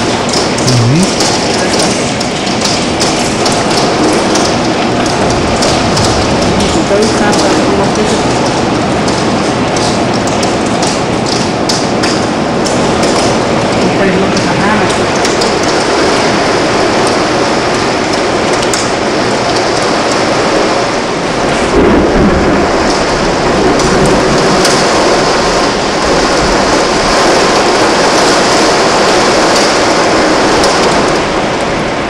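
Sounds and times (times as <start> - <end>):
heavy rain pounding: 0.0 - 32.0
hailstones ticking: 1.2 - 31.9.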